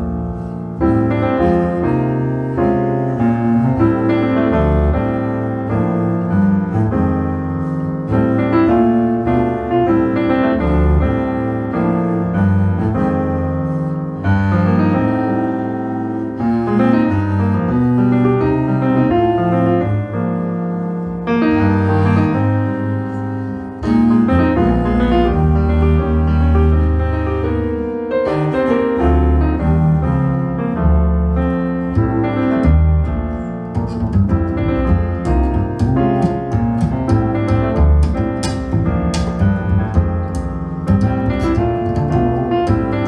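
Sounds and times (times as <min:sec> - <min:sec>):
piano music over loudspeakers: 0:00.0 - 0:43.0.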